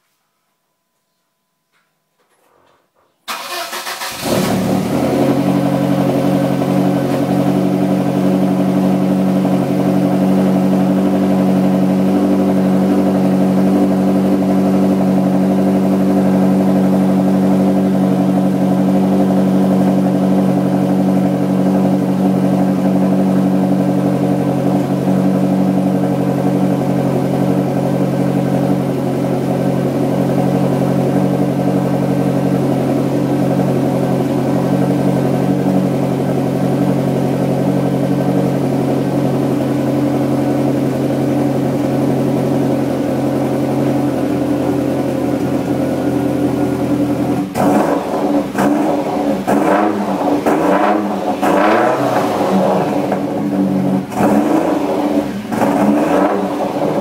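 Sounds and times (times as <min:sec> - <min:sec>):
car engine starting: 0:03.2 - 0:57.0
car engine idling loudly: 0:03.8 - 0:57.0.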